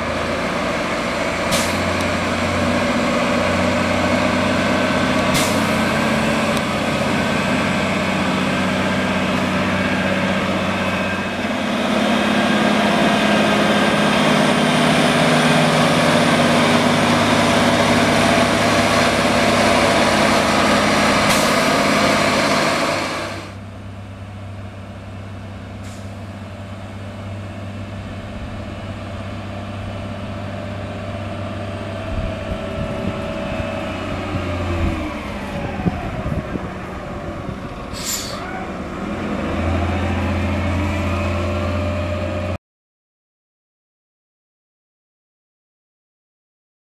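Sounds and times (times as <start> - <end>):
diesel engine running loudly: 0.0 - 42.6.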